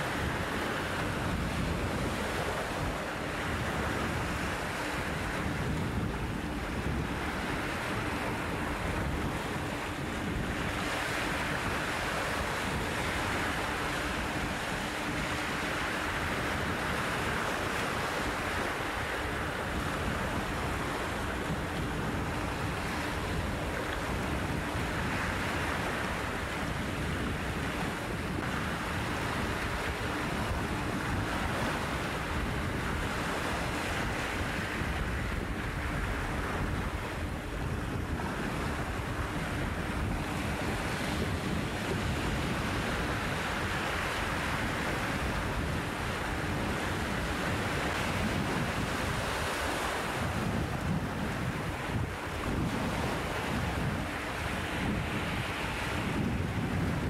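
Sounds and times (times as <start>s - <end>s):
waves washing over rocky shore: 0.0s - 57.0s
wind rumbling on microphone: 0.0s - 57.0s.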